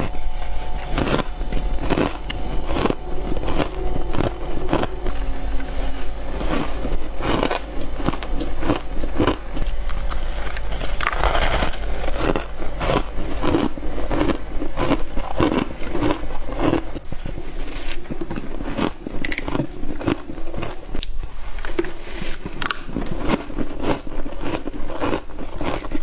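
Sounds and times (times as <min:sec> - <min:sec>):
mouth crunching frost: 0:00.0 - 0:26.0.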